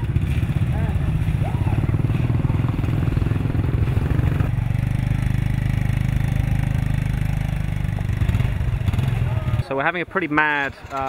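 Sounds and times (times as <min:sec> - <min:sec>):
motor scooter engines running: 0:00.0 - 0:11.0.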